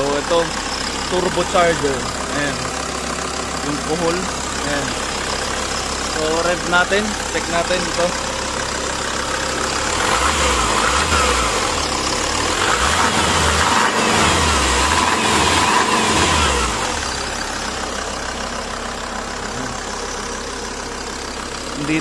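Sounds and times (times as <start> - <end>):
diesel engine idling and revving: 0.0 - 22.0.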